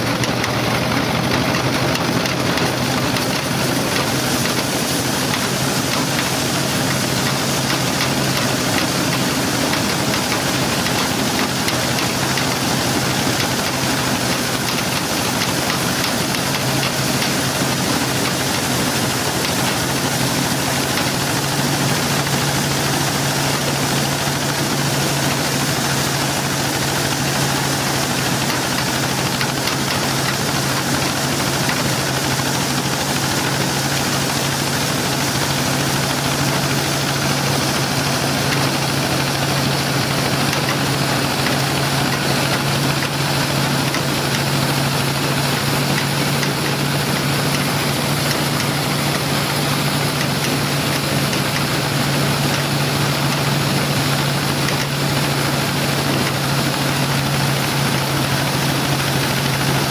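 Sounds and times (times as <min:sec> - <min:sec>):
corn sheller rattling: 0:00.0 - 0:59.9
tractor engine hum: 0:00.0 - 0:59.9.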